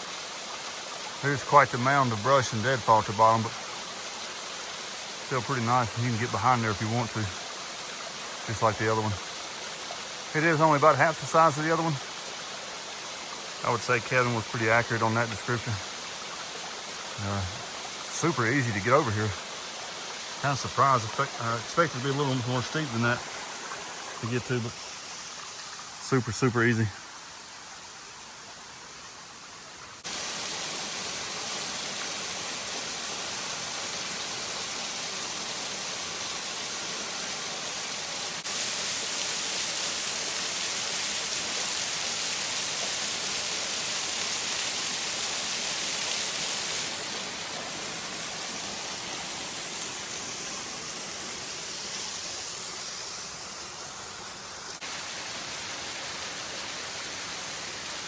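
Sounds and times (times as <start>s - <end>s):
waterfall pouring: 0.0s - 27.0s, 30.0s - 58.0s.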